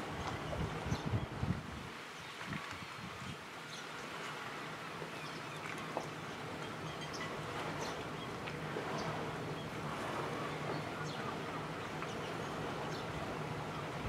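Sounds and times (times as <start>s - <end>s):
wash of noise: 0.0s - 14.0s.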